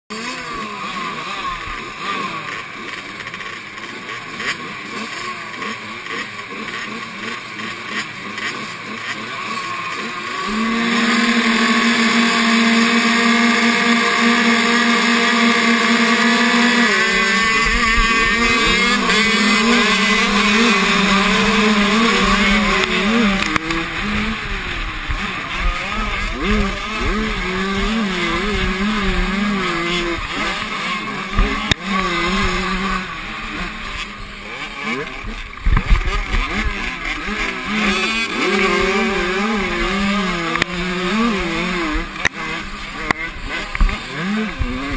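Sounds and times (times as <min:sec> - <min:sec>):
motocross engines running: 0:00.1 - 0:44.9
motorcycle engine revving: 0:00.1 - 0:44.9.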